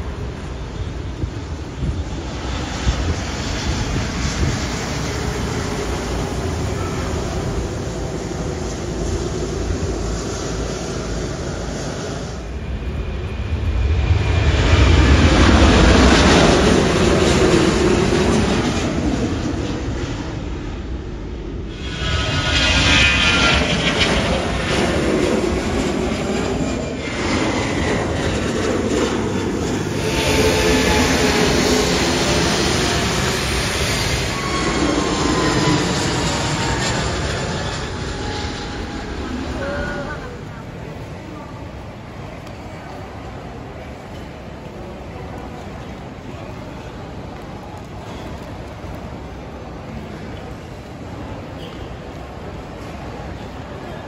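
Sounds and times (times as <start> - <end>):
jet airliners taking off: 0.0 - 54.0.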